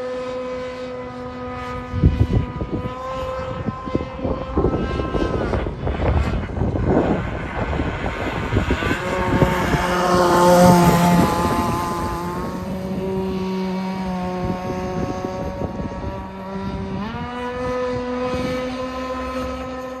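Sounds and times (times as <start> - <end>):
model airplane engine buzzing: 0.0 - 20.0.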